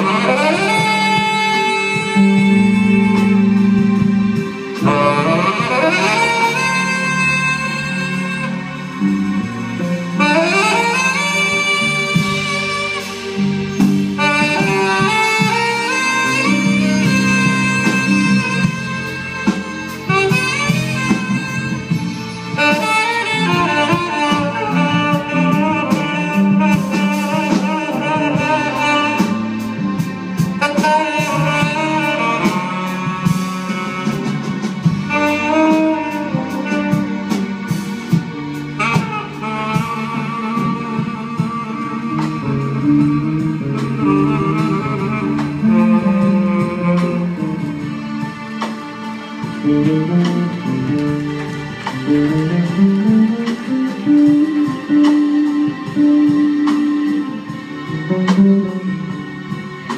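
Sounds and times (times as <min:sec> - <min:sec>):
live jazz band: 0:00.0 - 0:59.9
tenor saxophone melody: 0:00.0 - 0:59.9.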